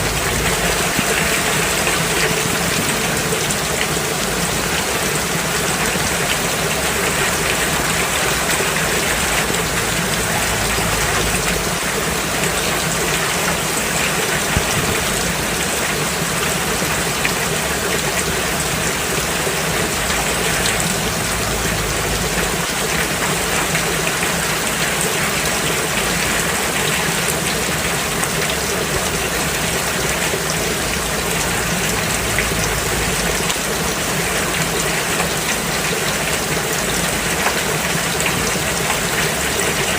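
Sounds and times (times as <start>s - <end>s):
rain falling on road: 0.0s - 39.9s.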